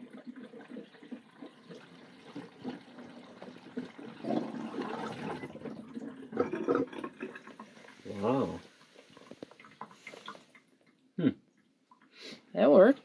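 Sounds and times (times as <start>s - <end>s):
water draining through hose: 0.0s - 12.2s.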